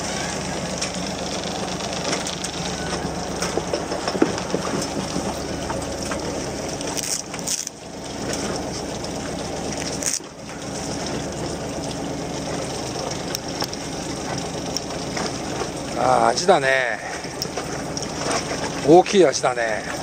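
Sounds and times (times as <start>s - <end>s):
boat engine running: 0.0s - 20.0s
water splashing along hull: 0.0s - 20.0s.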